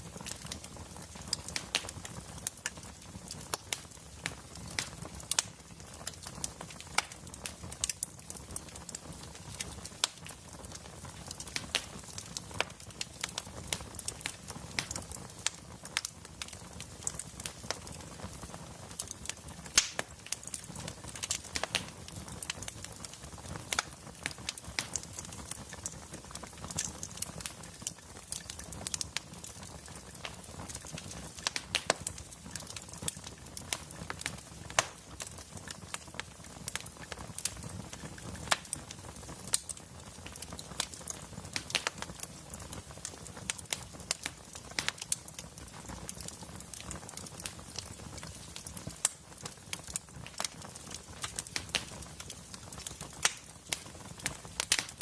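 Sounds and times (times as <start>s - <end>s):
logs crackling and popping: 0.0s - 55.0s
low fire rumble: 0.0s - 55.0s.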